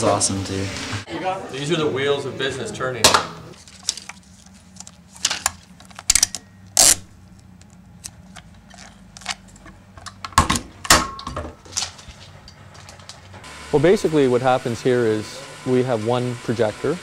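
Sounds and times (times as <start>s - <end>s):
steady low hum: 1.4s - 17.0s.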